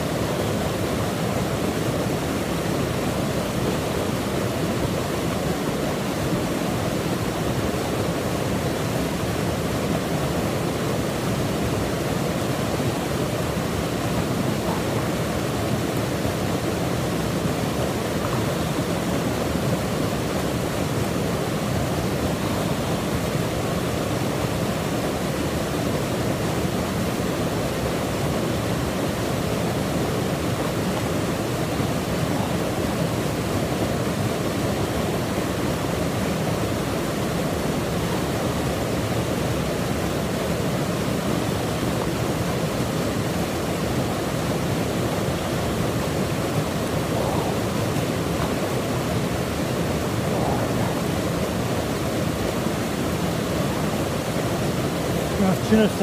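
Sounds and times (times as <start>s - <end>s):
waterfall pouring into a pool: 0.0s - 56.0s.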